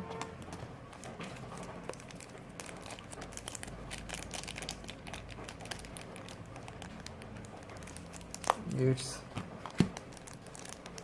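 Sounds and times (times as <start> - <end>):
wrapping crinkling: 0.2 - 11.0.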